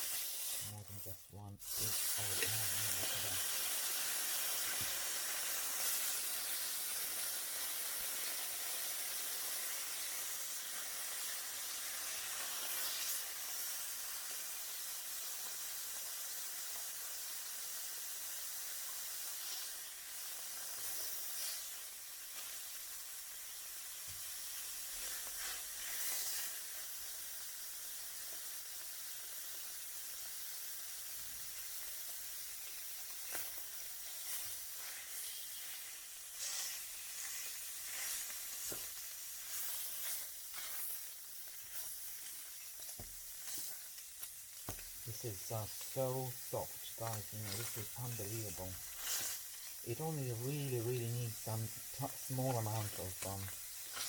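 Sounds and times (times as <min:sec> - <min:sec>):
steak sizzling in a hot pan: 0:00.0 - 0:54.0.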